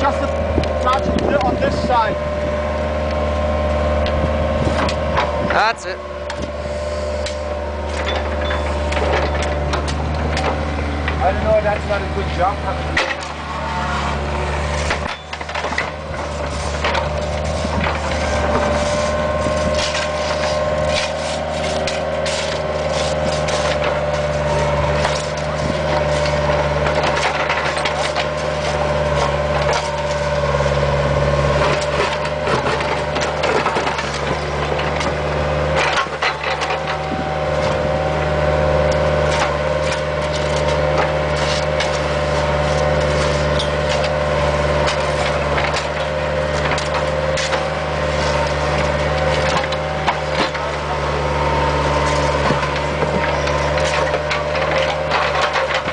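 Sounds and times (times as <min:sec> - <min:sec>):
asphalt chunks cracking and grinding: 0:00.0 - 0:02.2, 0:07.2 - 0:55.9
bucket scraping asphalt: 0:00.0 - 0:55.9
excavator diesel engine whining: 0:00.0 - 0:55.9.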